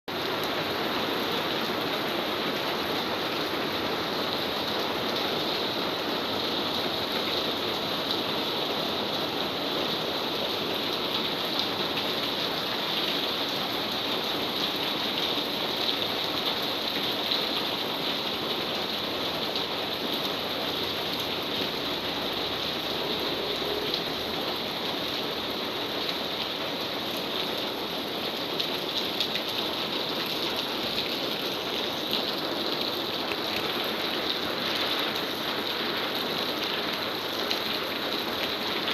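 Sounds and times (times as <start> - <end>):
rain falling: 0.1 - 38.9.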